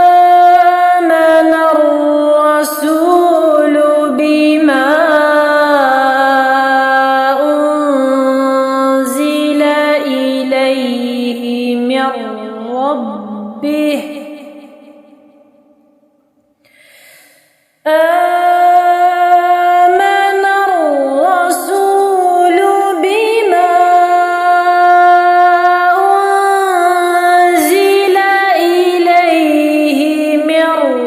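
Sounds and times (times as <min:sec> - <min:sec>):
woman chanting melodically: 0:00.0 - 0:14.8, 0:17.9 - 0:31.0.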